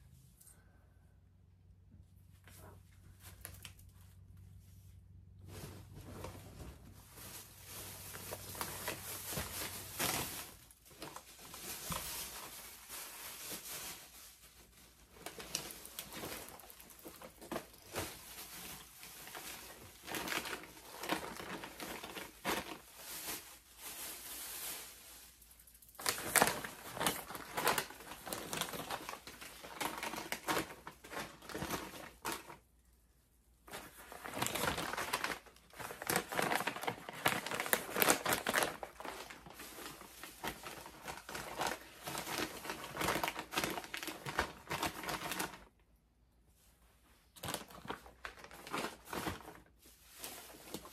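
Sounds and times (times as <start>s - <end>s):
plastic bags crinkling: 5.4s - 32.7s, 33.6s - 45.8s, 47.2s - 50.9s.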